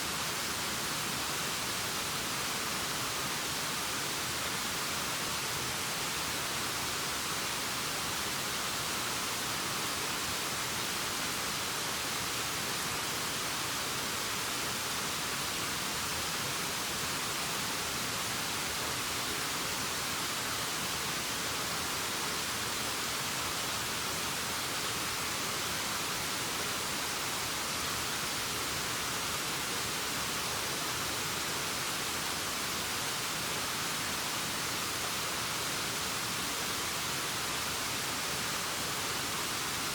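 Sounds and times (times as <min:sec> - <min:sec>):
waterfall rushing hiss: 0:00.0 - 0:39.9.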